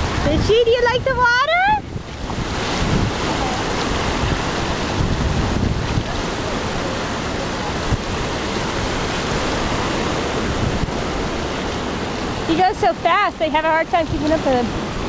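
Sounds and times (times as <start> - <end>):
ocean surf washing in: 0.0 - 15.0
wind on microphone: 0.0 - 15.0.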